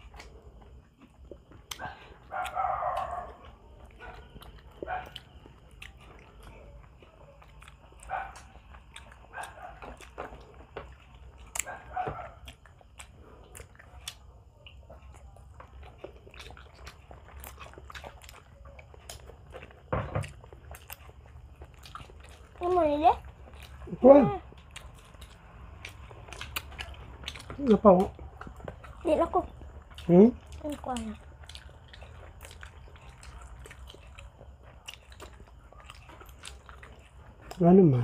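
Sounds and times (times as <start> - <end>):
people chewing and smacking: 0.0 - 38.0.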